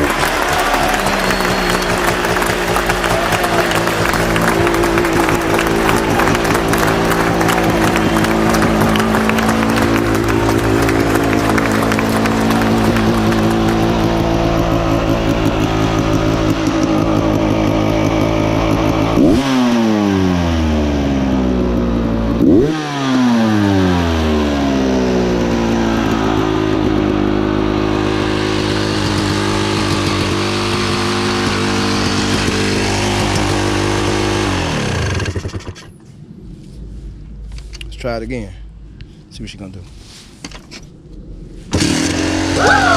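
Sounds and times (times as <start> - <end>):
dirt bike engine revving: 0.0 - 35.8, 41.7 - 42.9.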